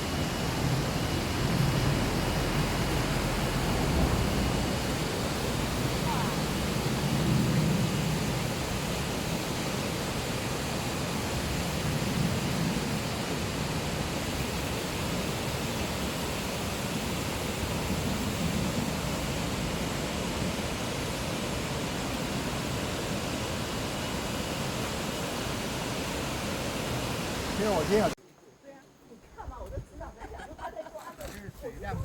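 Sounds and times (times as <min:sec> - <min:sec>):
waterfall rushing: 0:00.0 - 0:28.2.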